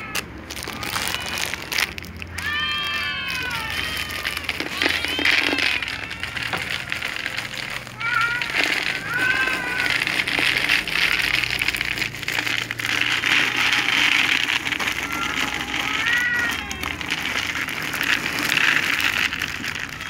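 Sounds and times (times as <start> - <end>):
cats meowing: 0.0 - 20.0
dry cat food poured into bowl: 0.1 - 20.0.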